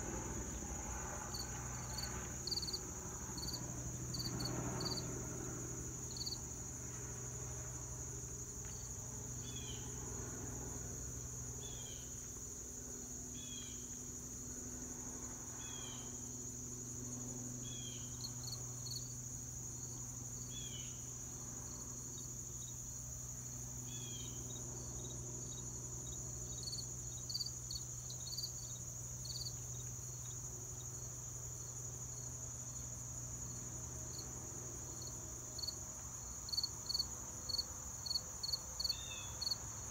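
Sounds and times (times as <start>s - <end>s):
crickets trilling: 0.0s - 39.9s
low steady hum: 0.0s - 39.9s.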